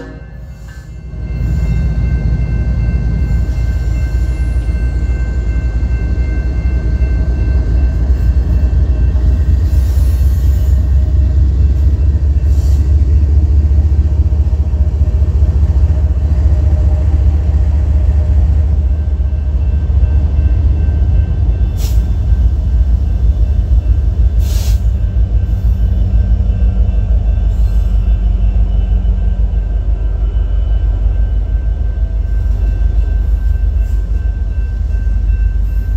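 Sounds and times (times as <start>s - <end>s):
train rumbling past: 0.0s - 35.9s.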